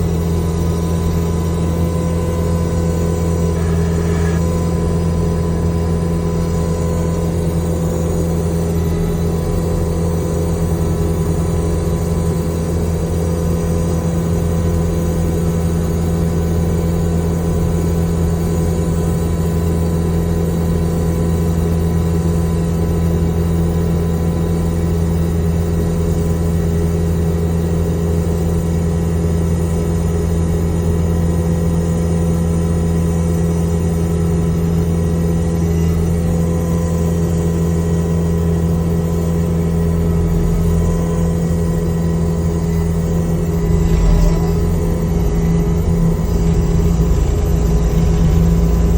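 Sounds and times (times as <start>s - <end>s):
diesel engine running steadily: 0.0s - 48.9s.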